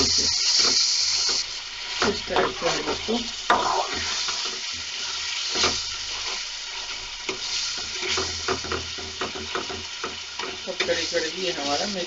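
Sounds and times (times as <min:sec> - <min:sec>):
masala sizzling in a pan: 0:00.0 - 0:12.0
spatula scraping a pan: 0:00.0 - 0:12.0.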